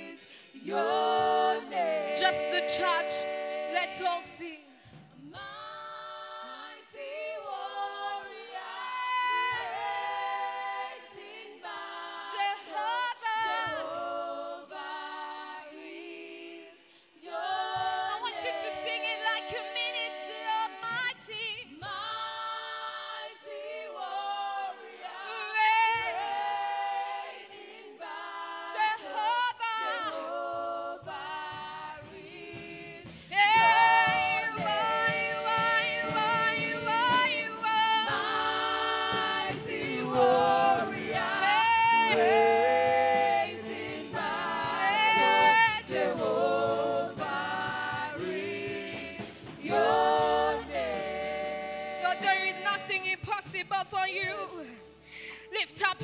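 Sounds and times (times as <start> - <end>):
choir singing gospel song: 0.0 - 56.0.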